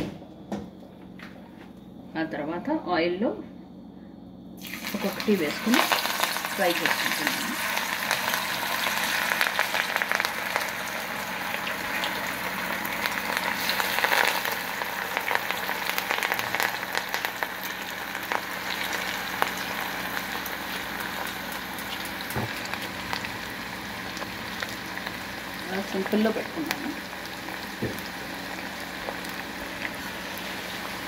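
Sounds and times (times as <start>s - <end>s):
oil crackling and sizzling: 4.6s - 31.0s.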